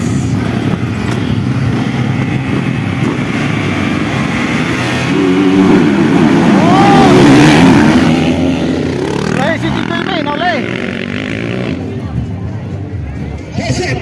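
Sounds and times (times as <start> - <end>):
motocross bikes revving: 0.0 - 12.2.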